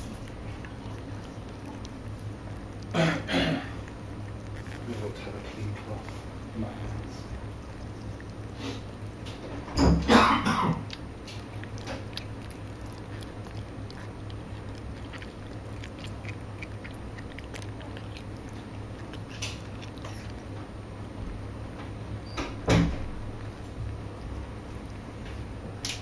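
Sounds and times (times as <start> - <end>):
cat licking and chewing: 0.0 - 22.3, 23.0 - 26.0.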